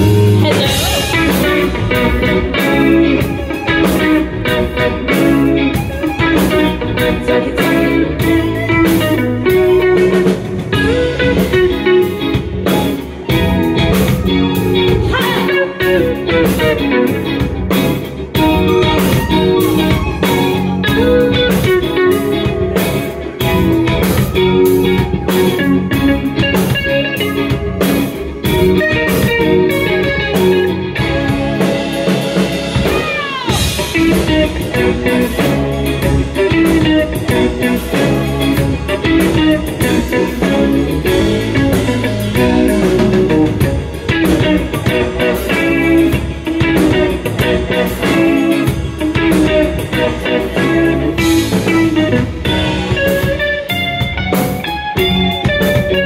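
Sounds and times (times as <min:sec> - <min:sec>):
drums: 0:00.0 - 0:56.0
electric guitar melody: 0:00.0 - 0:56.0.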